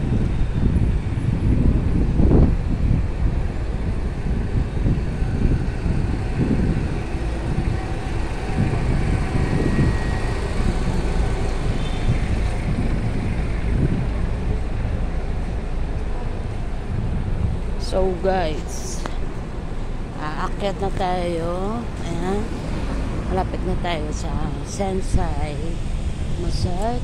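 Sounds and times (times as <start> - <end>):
engines passing: 0.0 - 27.0
street traffic rumble: 0.0 - 27.0.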